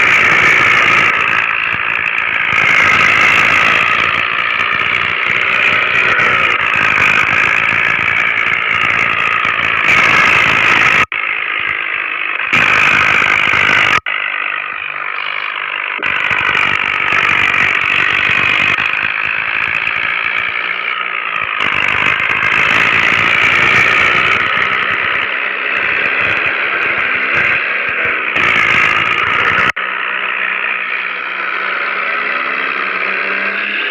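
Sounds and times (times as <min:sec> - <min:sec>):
tractor engine running under load: 0:00.0 - 0:33.9.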